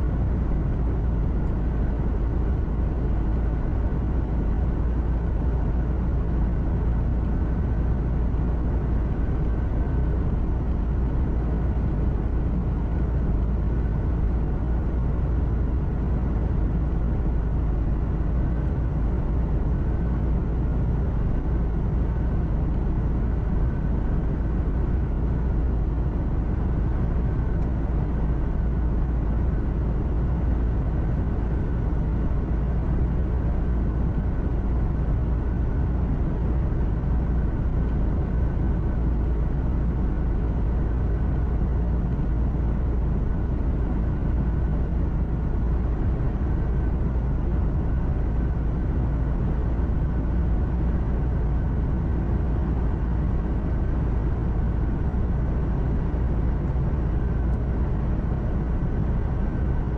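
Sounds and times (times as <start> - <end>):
faint steady whine: 0.0 - 59.9
truck engine and road noise: 0.0 - 59.9.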